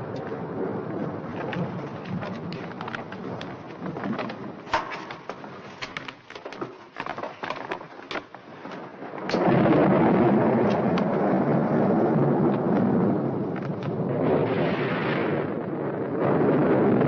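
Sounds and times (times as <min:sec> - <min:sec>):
scattered crackles: 0:00.0 - 0:17.0
thunder rumbling: 0:00.0 - 0:17.0.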